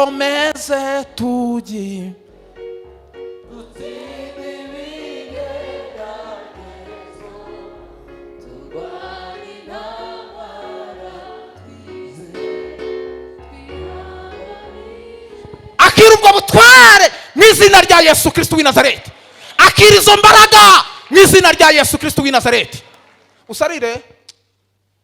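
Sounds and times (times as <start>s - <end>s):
choir singing gospel music: 0.0s - 22.6s.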